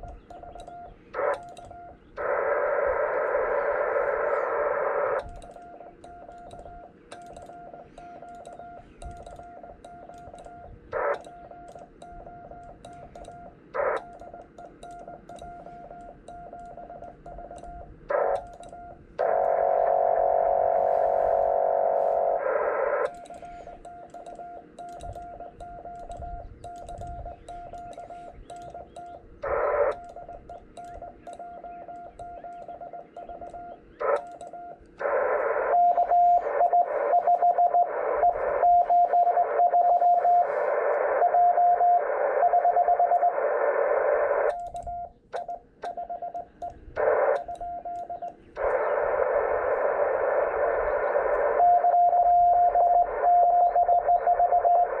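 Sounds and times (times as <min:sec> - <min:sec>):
radio receiver hiss: 0:00.0 - 0:31.7, 0:32.3 - 0:44.6, 0:45.4 - 0:55.0
morse code tone: 0:00.0 - 0:55.0.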